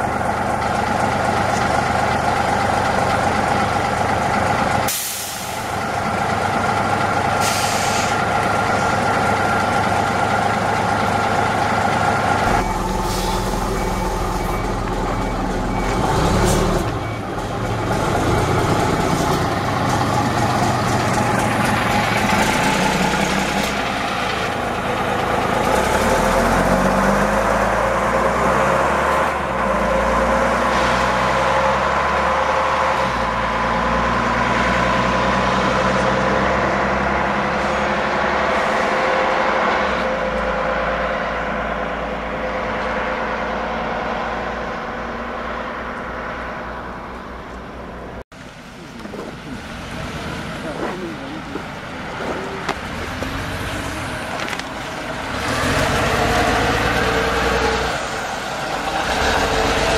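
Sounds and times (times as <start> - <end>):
heavy diesel bus engines: 0.0 - 59.9.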